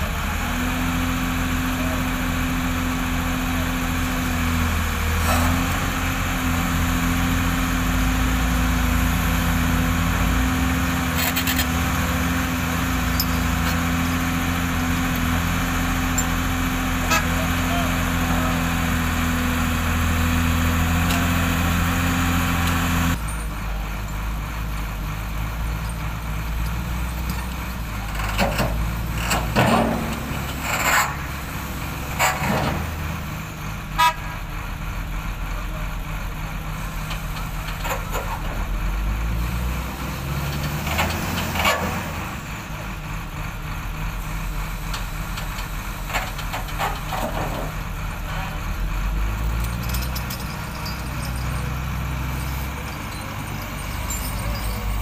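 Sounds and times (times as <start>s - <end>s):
heavy diesel engines under load: 0.0s - 55.0s.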